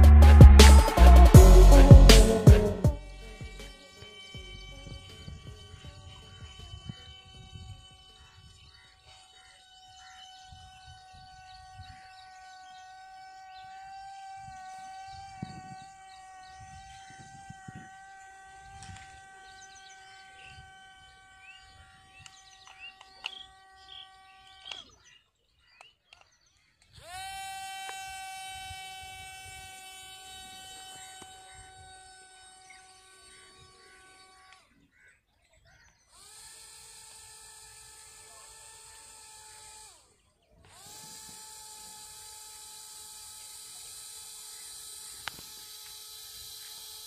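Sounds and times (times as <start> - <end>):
electric motors whining: 0.0 - 25.2, 26.2 - 47.0
birds chirping: 0.0 - 42.0.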